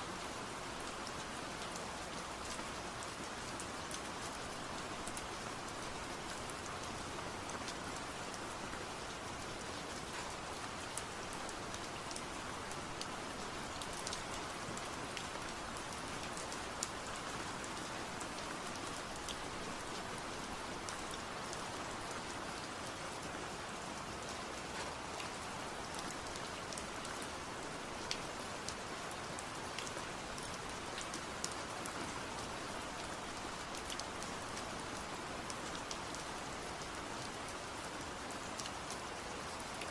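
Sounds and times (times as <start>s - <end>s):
steady rain hiss: 0.0s - 39.9s
raindrops ticking on a surface: 0.1s - 39.9s.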